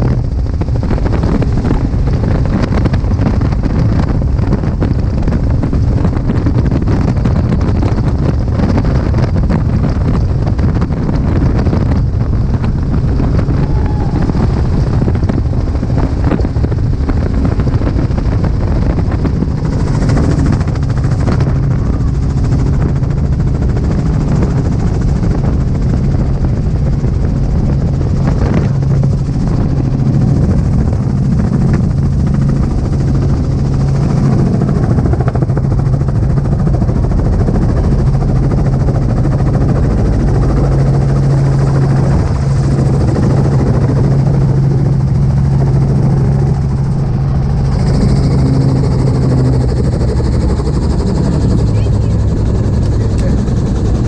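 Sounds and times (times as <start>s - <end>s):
helicopter rotor drone: 0.0s - 54.0s
wind rushing: 0.0s - 54.0s.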